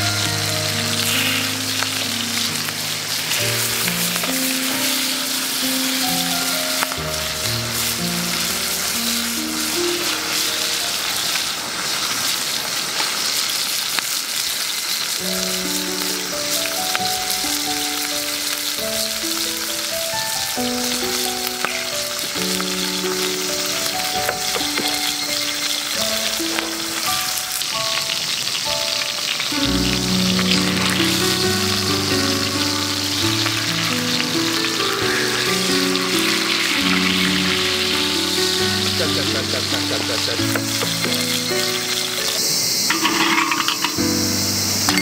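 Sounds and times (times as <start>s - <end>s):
chicken sizzling in a skillet: 0.0s - 45.0s.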